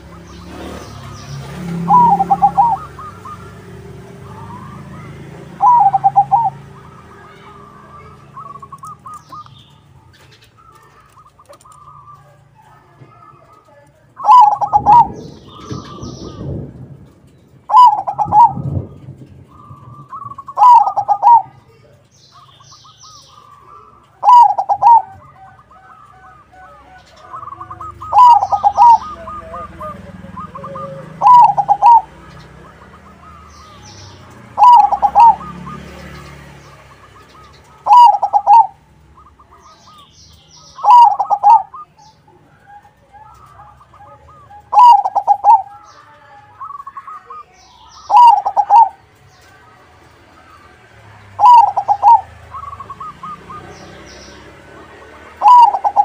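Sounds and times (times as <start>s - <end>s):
high bird chirps: 0.0s - 12.4s, 14.2s - 16.6s, 17.4s - 18.9s, 19.5s - 42.3s, 43.2s - 49.5s, 51.2s - 54.6s, 55.4s - 56.0s
dove cooing: 0.0s - 49.6s, 50.4s - 56.0s.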